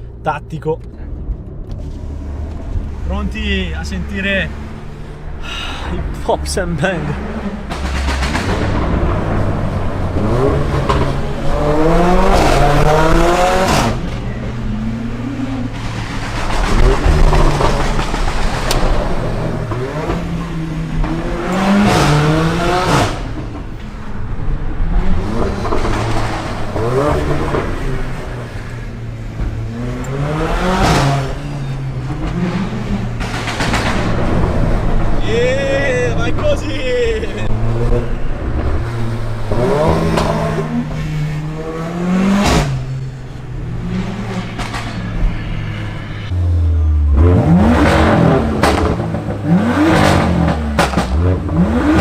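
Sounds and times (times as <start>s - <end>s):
car engine accelerating: 0.0s - 52.0s.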